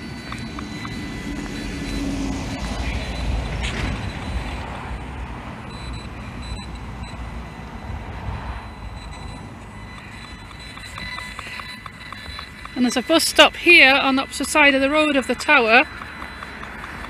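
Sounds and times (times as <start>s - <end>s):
road vehicle passing: 0.0s - 17.0s.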